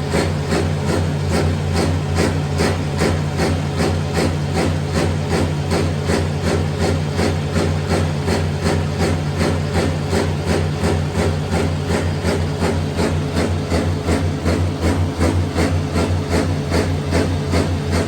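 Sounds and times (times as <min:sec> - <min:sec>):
machine running with low hum: 0:00.0 - 0:18.0.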